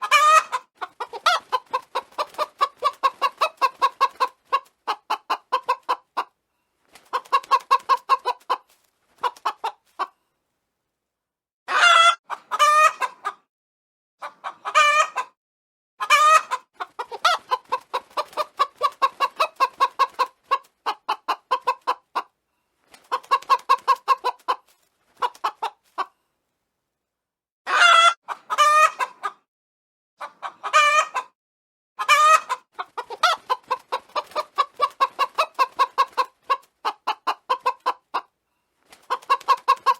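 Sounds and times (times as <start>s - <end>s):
chicken calls rising and falling: 0.0s - 6.3s, 7.0s - 10.2s, 11.7s - 13.5s, 14.2s - 15.4s, 16.0s - 22.3s, 22.9s - 26.1s, 27.7s - 29.4s, 30.2s - 31.4s, 32.0s - 38.3s, 38.9s - 39.9s
chickens clucking: 0.0s - 10.2s, 11.7s - 13.5s, 14.2s - 15.4s, 16.0s - 26.2s, 27.7s - 29.5s, 30.2s - 31.4s, 32.0s - 38.3s, 38.9s - 39.9s.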